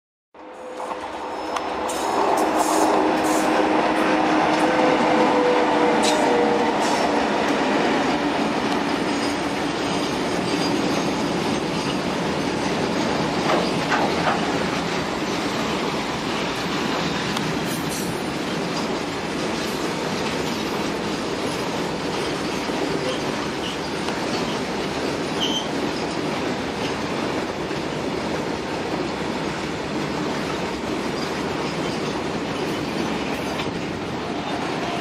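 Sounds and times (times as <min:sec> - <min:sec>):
train wheels on rails: 0:00.4 - 0:35.0.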